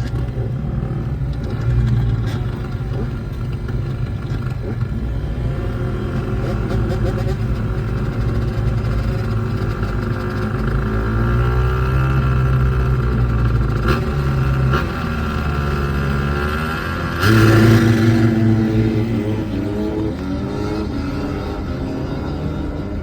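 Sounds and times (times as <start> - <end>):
vehicle engines running: 0.0 - 23.0.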